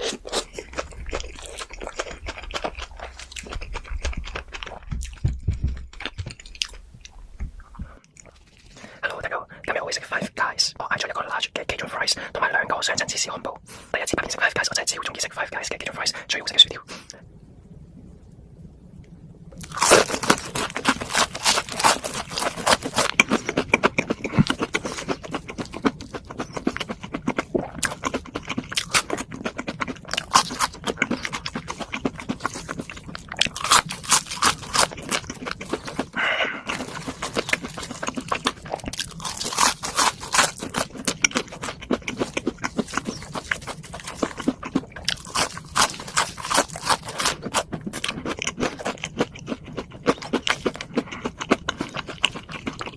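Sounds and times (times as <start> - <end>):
person chewing crunchy food: 0.0 - 9.1, 19.6 - 52.9.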